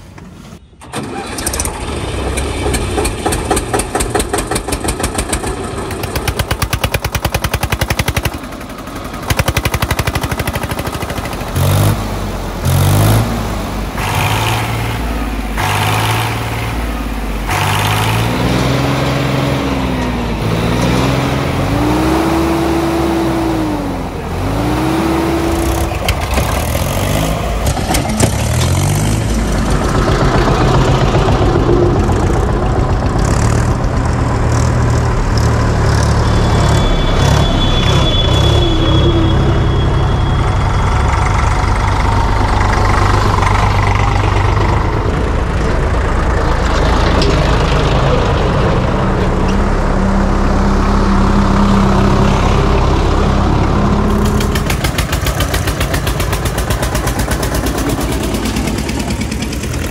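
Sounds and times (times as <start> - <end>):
diesel tractor engines running: 0.0 - 59.9.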